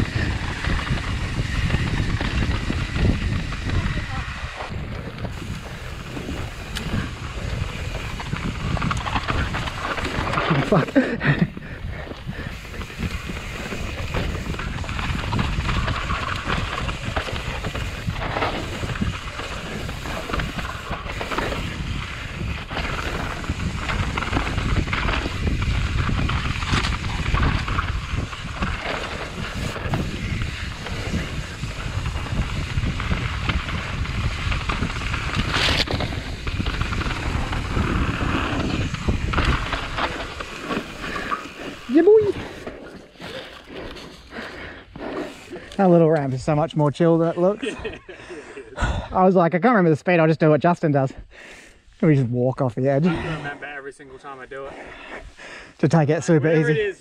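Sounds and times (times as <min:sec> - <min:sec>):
wind buffeting microphone: 0:00.0 - 0:45.7
tyres rolling over dirt: 0:00.0 - 0:48.2
bike rattling and clicking: 0:00.0 - 0:48.4.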